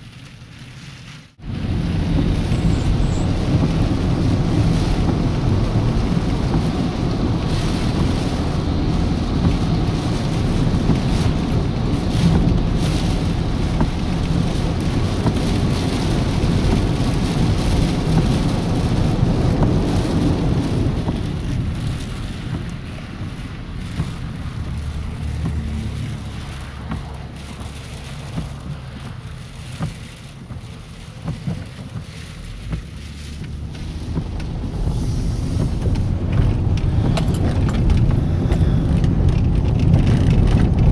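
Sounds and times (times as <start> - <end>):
rain and wind beating on a car: 0.0 - 40.9
tyre noise on wet road: 0.0 - 40.9.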